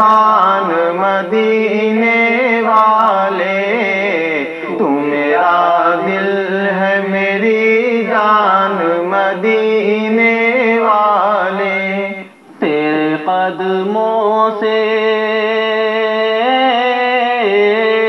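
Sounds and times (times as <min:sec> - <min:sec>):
men singing devotional song: 0:00.0 - 0:18.0.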